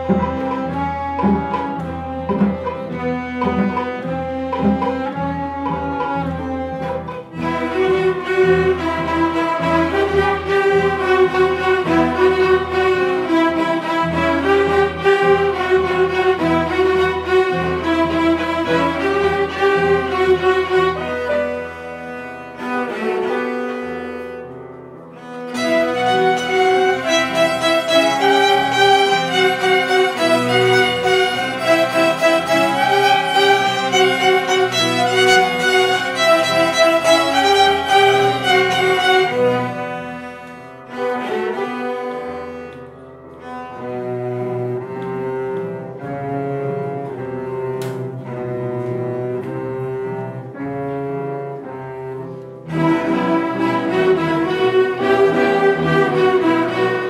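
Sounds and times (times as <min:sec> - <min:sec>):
cello and violin music: 0:00.0 - 0:57.0.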